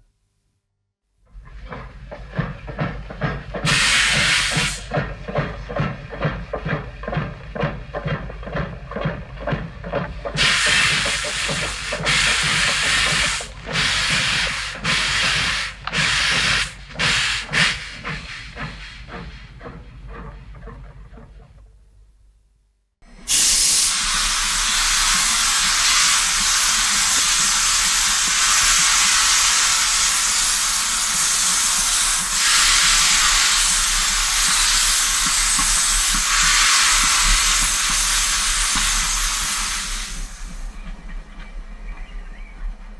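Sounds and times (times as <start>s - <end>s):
steam locomotive hissing steam: 2.4s - 20.3s, 23.1s - 40.8s.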